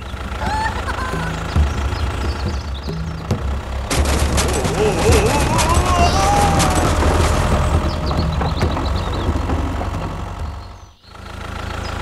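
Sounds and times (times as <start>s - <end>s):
tractor engine rumble: 0.0s - 12.0s.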